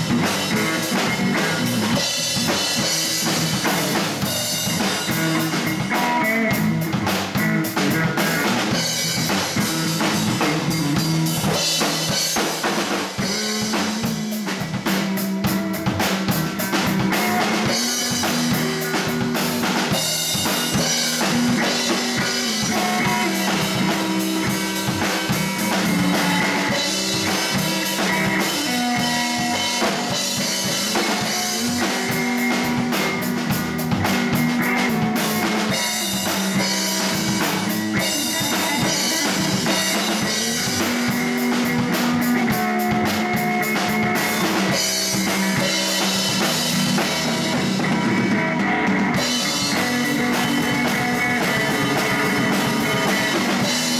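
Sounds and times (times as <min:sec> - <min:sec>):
blues band playing: 0:00.0 - 0:53.9
steady drum beat: 0:00.0 - 0:53.9
walking bass line: 0:00.0 - 0:53.9.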